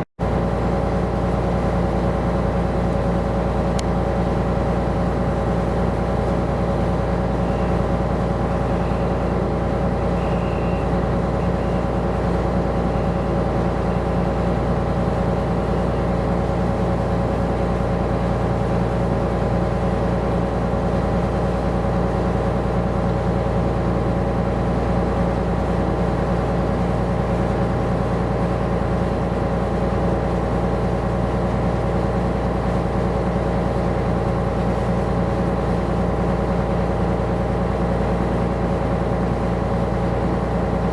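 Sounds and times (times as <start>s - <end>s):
ship engine droning: 0.2s - 40.9s.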